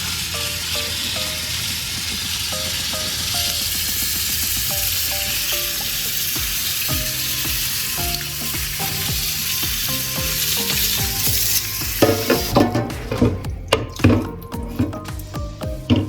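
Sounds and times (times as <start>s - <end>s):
soft background music: 0.0s - 16.0s
tap water running into sink: 0.0s - 16.0s.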